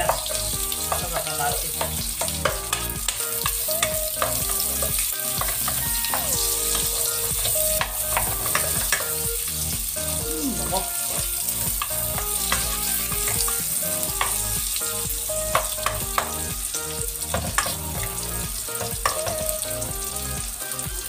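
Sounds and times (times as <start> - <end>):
meat sizzling in hot oil: 0.0 - 21.0.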